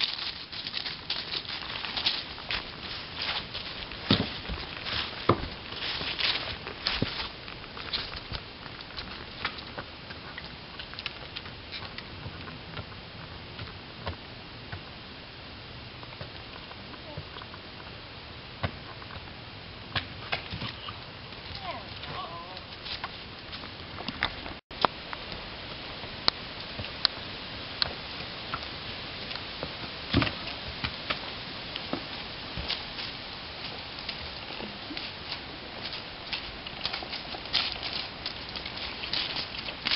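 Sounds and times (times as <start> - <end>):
horse hooves on hard slab: 0.0 - 14.9, 18.6 - 39.9
outdoor hiss: 0.0 - 39.9.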